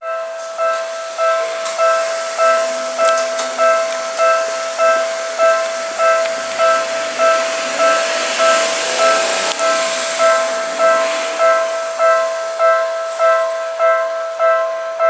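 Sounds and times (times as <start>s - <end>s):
level crossing warning bell: 0.0s - 15.0s
train rushing past: 0.0s - 15.0s.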